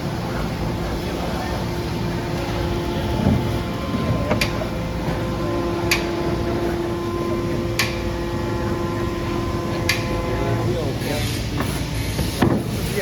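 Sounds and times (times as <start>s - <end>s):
press machinery humming: 0.0s - 13.0s.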